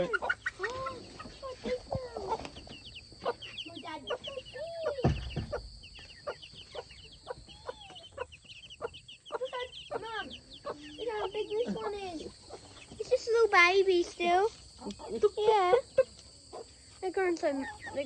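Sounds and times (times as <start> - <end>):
chicks peeping: 0.0 - 18.0
hen clucking: 0.0 - 18.0.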